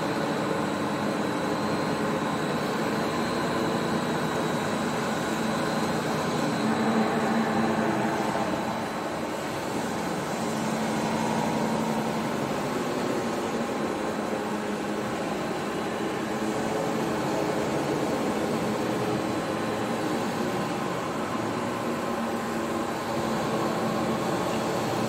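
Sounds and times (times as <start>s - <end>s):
machine hum and hiss: 0.0s - 25.0s.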